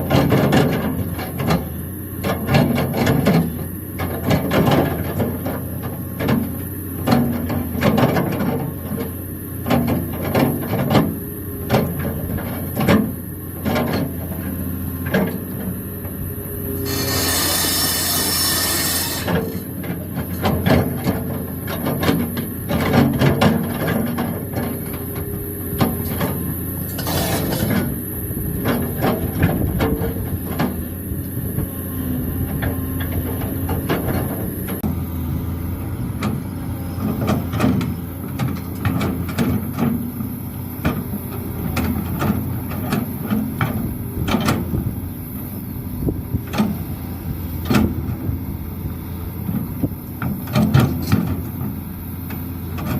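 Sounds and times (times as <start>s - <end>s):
excavator diesel engine: 0.0s - 52.9s.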